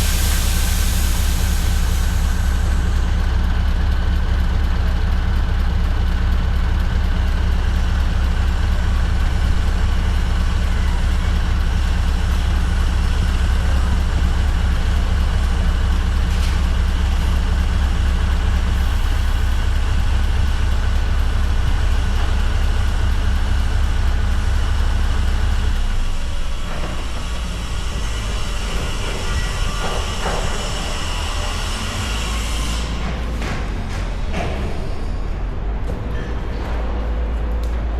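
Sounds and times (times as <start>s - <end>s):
truck engine running: 0.0s - 37.9s.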